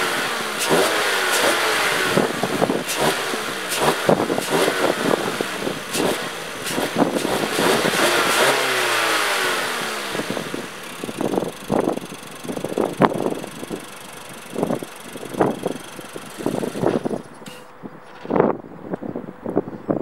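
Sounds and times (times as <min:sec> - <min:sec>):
car engine revving: 0:00.0 - 0:17.6.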